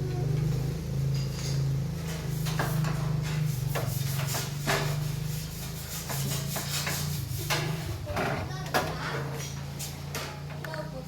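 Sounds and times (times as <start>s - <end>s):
scraping and rubbing noises: 0.6s - 10.8s.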